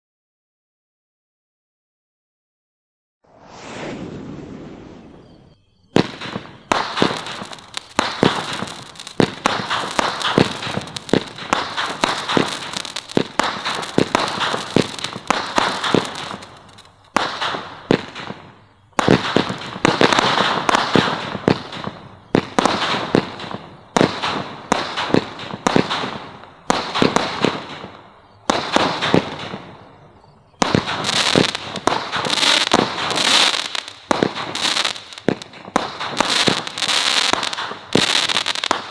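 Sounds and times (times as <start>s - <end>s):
fireworks bangs and crackling: 3.3s - 38.9s.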